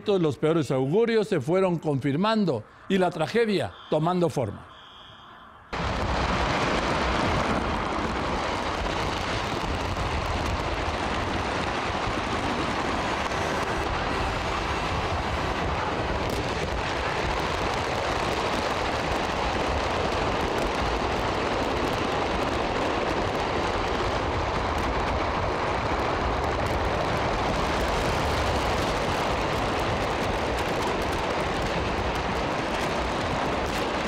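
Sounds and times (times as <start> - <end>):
car road and wind noise: 4.8 - 34.0
fireworks crackling: 5.7 - 34.0.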